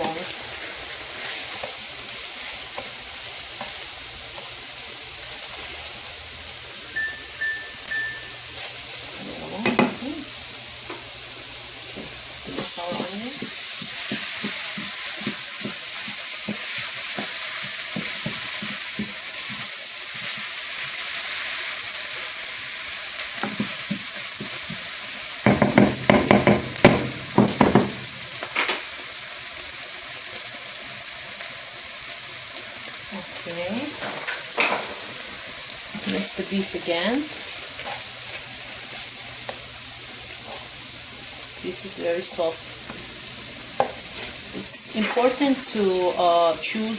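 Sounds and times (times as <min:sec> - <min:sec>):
food sizzling in hot oil: 0:00.0 - 0:46.9.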